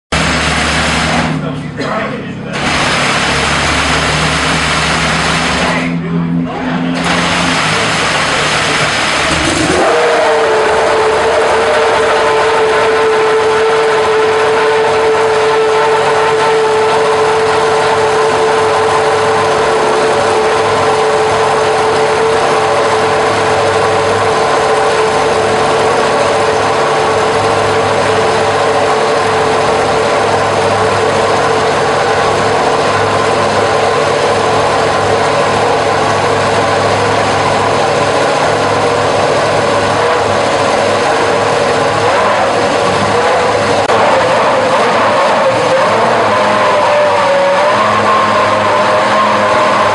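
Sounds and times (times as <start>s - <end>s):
racing car engine idling: 0.1s - 49.9s.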